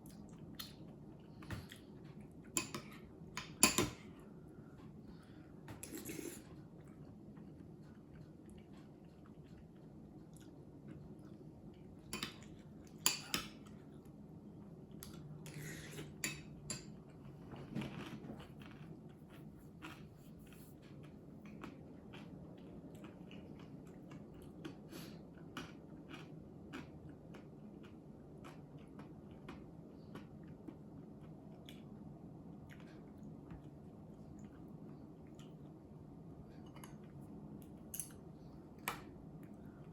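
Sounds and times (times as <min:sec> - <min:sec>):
quiet chewing: 0:00.0 - 0:14.2, 0:17.0 - 0:39.9
low room hum: 0:00.0 - 0:39.9.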